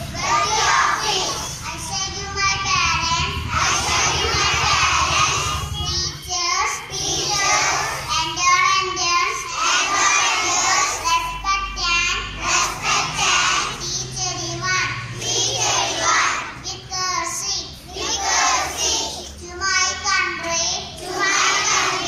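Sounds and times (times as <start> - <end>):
children reciting into a microphone: 0.0 - 22.0.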